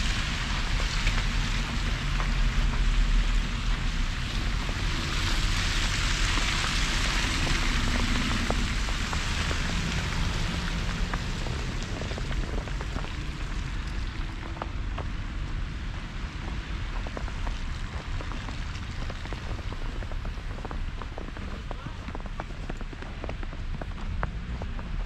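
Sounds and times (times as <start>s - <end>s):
low traffic rumble: 0.0s - 25.0s.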